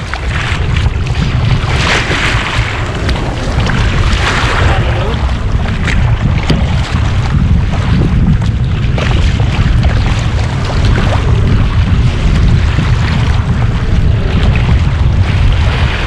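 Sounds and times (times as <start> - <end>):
paddle dipping in water: 0.0 - 16.0
water splashing around kayak: 0.0 - 16.0
wind on microphone: 0.0 - 16.0.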